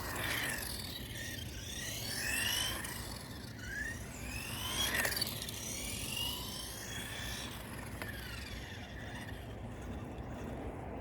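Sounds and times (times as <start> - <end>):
electric toy car motor whining: 0.0 - 10.8.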